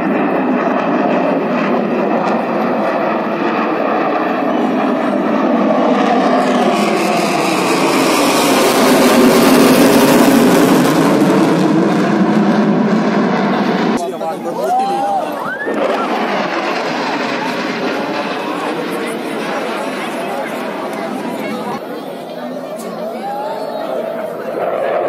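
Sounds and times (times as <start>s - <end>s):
fighter jet engines roaring: 0.0s - 25.0s.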